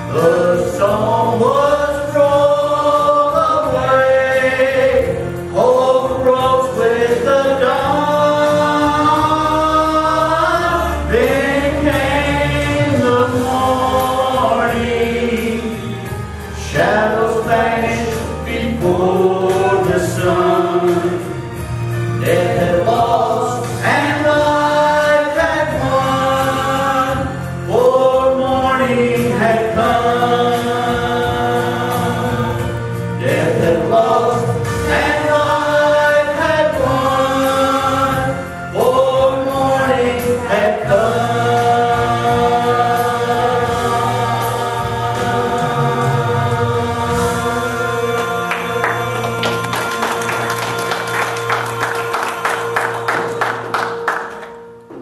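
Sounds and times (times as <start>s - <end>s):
woman and man singing duet: 0.0s - 21.5s, 22.2s - 51.1s
low musical accompaniment: 0.0s - 55.0s.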